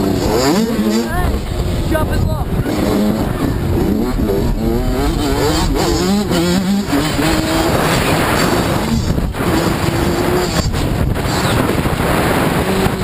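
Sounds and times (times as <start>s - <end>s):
dirt bike engine accelerating: 0.0s - 13.0s
wind rumble on microphone: 0.0s - 13.0s.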